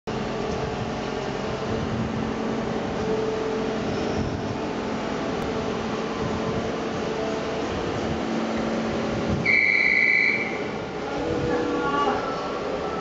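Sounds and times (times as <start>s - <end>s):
electric train humming: 0.1s - 13.0s.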